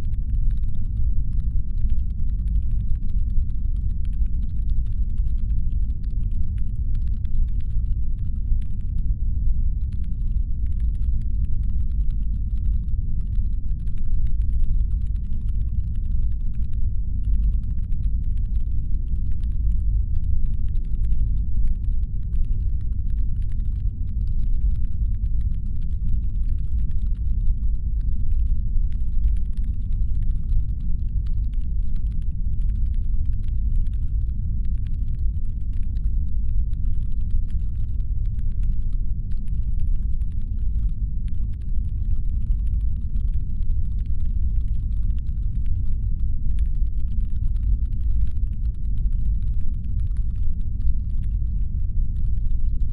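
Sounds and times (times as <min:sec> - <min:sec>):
deep engine hum rumble: 0:00.0 - 0:52.9.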